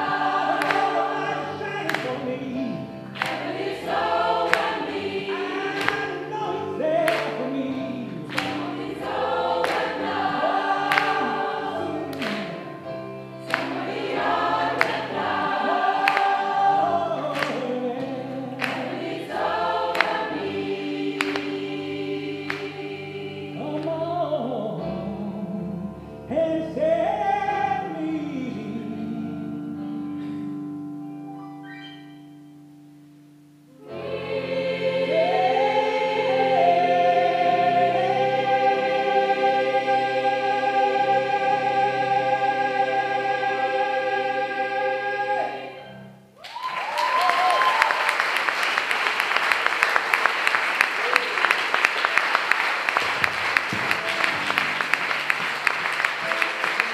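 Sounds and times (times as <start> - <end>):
gospel choir singing: 0.0 - 30.3, 33.8 - 46.3, 47.5 - 56.9.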